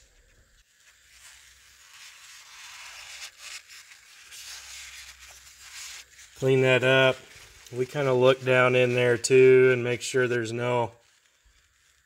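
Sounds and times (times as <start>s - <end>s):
paper towel rustling: 0.7s - 12.0s.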